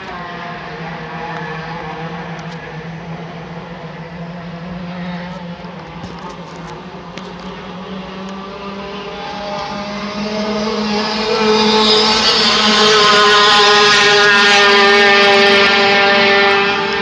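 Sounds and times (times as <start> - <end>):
racing boat engine: 0.0 - 17.0.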